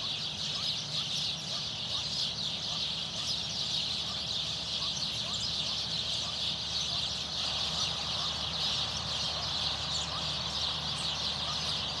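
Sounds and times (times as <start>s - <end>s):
flock of small birds chirping: 0.0s - 12.0s.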